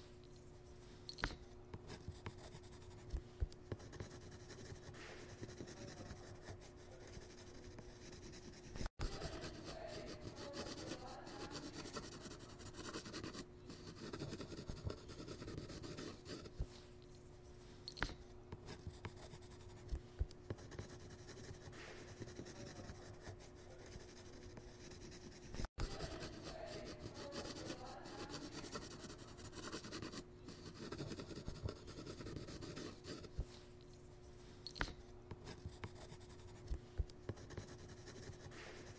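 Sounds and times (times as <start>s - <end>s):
faint steady hum: 0.0s - 38.9s
pencil scribbling on paper: 1.8s - 16.6s, 18.6s - 33.4s, 35.4s - 38.9s.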